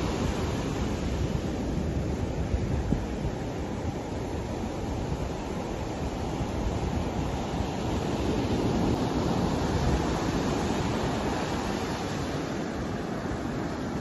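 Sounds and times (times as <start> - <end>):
ocean surf breaking on beach: 0.0 - 14.0
wind noise on microphone: 0.0 - 14.0.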